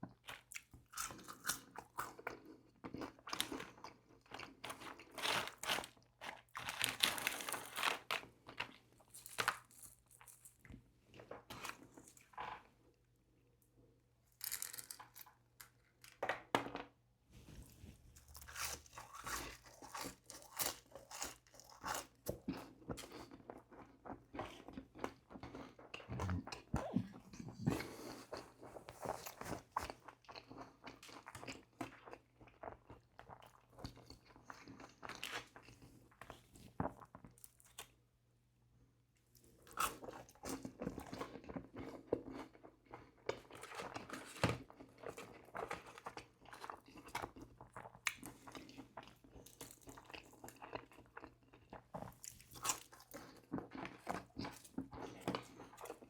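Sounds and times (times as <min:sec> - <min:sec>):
person chewing crunchy food: 0:00.1 - 0:12.8, 0:17.8 - 0:37.9, 0:39.4 - 0:56.0.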